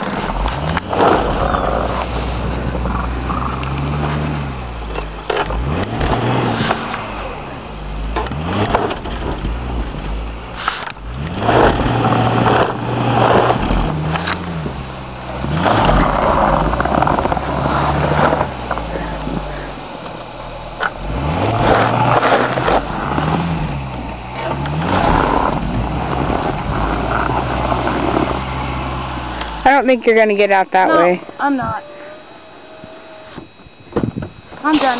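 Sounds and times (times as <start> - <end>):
tyres spinning in snow: 0.0 - 30.2
car engine revving: 0.0 - 34.9.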